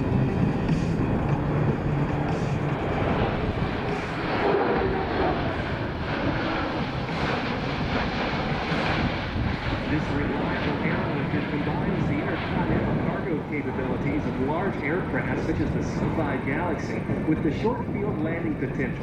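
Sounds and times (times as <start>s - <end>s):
jet engines rumbling in flight: 0.0s - 19.0s.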